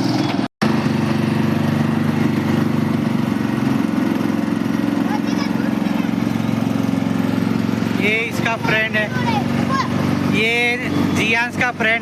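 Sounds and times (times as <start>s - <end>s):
crushing machine humming: 0.0s - 11.4s.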